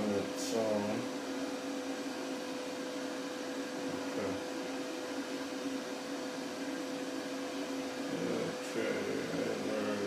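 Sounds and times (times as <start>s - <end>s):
amplifier hum: 0.0s - 10.0s.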